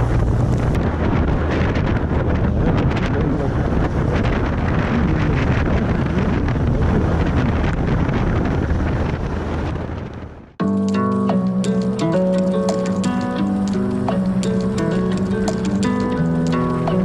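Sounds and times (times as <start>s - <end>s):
motorcycle engine drone: 0.0s - 10.6s, 11.3s - 17.0s
wind buffeting microphone: 0.0s - 17.0s.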